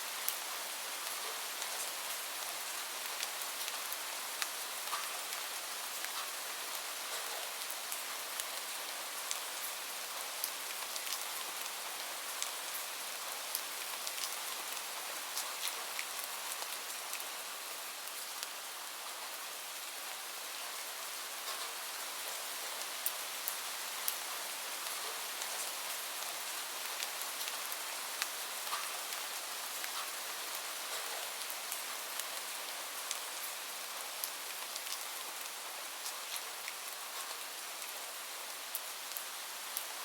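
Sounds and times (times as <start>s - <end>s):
steady rain hiss: 0.0s - 40.0s
raindrops ticking on a surface: 0.1s - 18.6s, 21.4s - 40.0s.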